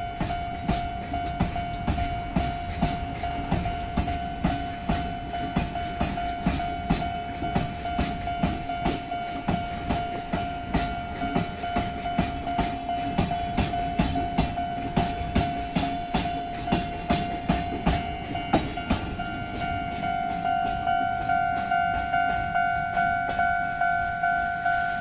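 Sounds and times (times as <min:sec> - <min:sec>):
ringing tone: 0:00.0 - 0:25.0
wheels clacking over rail joints: 0:00.0 - 0:25.0.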